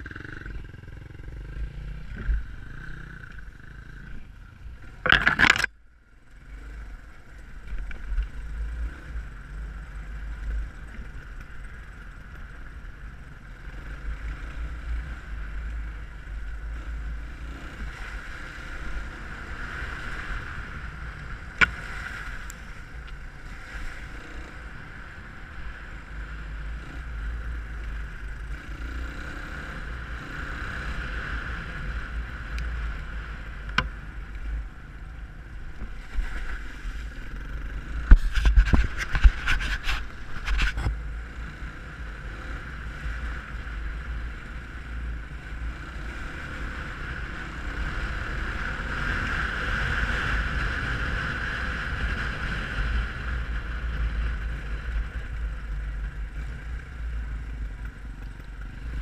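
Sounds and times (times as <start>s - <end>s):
dirt bike engine running: 0.0s - 59.0s
wind rumble on microphone: 7.4s - 59.0s.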